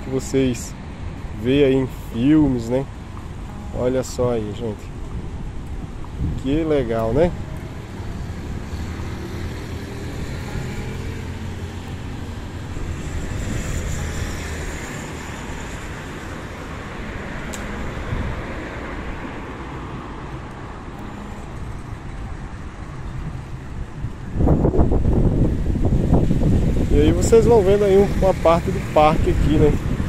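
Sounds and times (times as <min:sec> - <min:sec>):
cars passing on road: 0:00.0 - 0:30.0.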